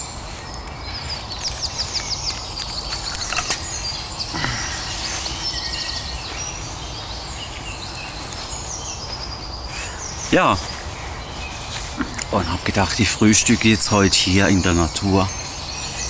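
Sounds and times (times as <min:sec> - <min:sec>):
low background noise: 0:00.0 - 0:16.0
small birds chirping: 0:00.0 - 0:16.0.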